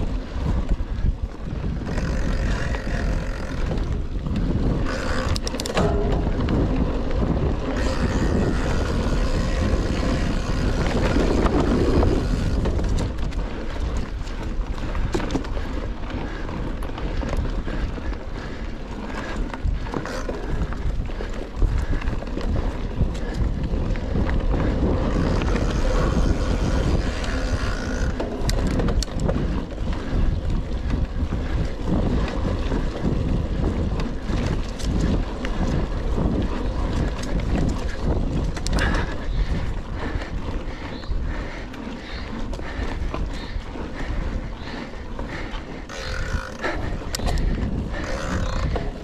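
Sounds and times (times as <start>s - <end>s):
bike clicks and rattles: 0.0s - 49.0s
wind buffeting microphone: 0.0s - 49.0s
tyres rumbling on dirt: 0.1s - 49.0s.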